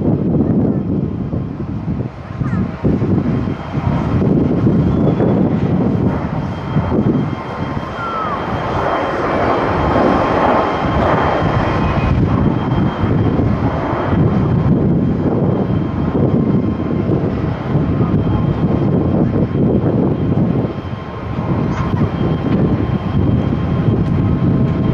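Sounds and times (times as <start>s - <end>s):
jet engines rumbling at takeoff: 0.0s - 24.9s
wind buffeting microphone: 0.0s - 24.9s.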